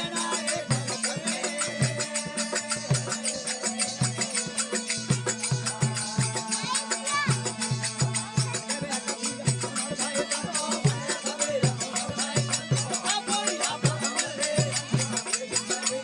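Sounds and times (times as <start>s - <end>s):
drum beating steady rhythm: 0.0s - 16.0s
jangling metal percussion: 0.0s - 16.0s.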